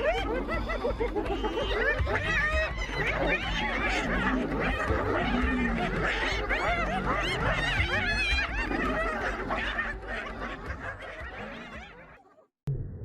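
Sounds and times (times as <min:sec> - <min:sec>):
laughter-like chattering calls: 0:00.0 - 0:12.5.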